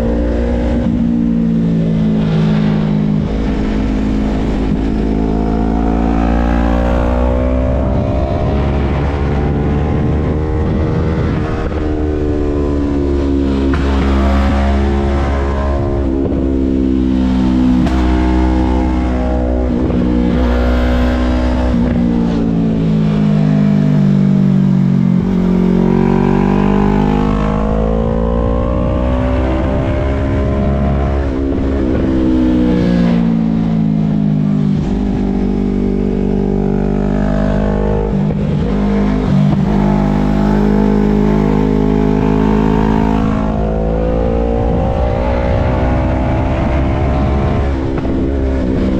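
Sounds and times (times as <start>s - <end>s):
vehicle engine revving: 0.0s - 48.9s.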